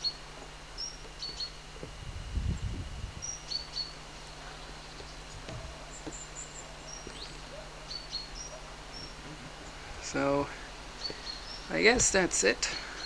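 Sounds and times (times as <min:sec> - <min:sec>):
low hum and hiss: 0:00.0 - 0:13.0
small birds chirping: 0:00.0 - 0:13.0.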